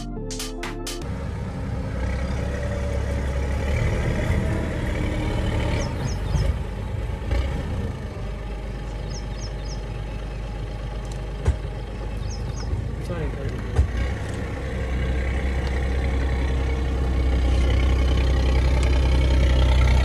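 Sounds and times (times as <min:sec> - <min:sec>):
diesel engine under load: 0:01.0 - 0:20.0.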